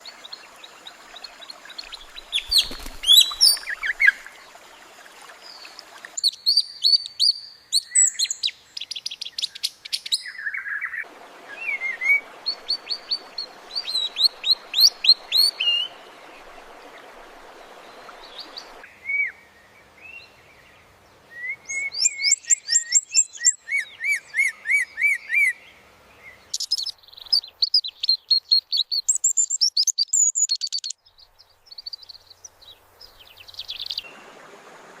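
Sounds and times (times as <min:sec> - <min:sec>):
birdsong chirps and trills: 0:00.0 - 0:34.4
faint background hiss: 0:00.0 - 0:35.0.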